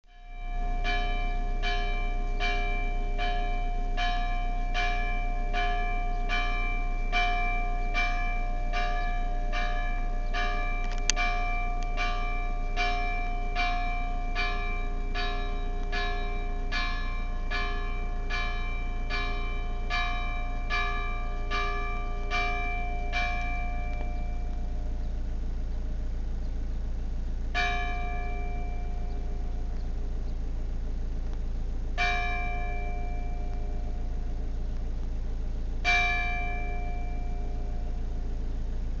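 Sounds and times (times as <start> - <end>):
church bell ringing: 0.1 - 26.2, 27.4 - 30.3, 31.9 - 34.6, 35.8 - 38.4.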